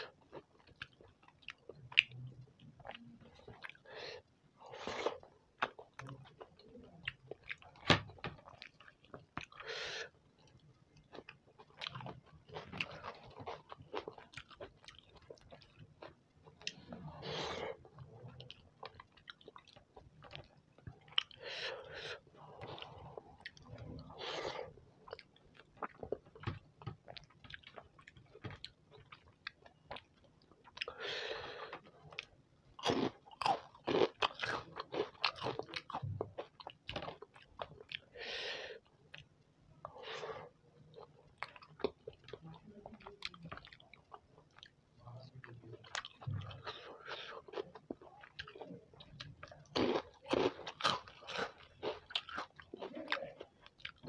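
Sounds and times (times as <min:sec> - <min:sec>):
man chewing and mouth sounds: 0:00.0 - 0:54.0.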